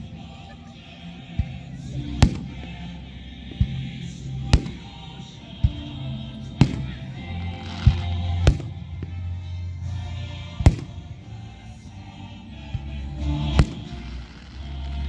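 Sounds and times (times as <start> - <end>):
sustained low bass line: 0.0 - 15.0.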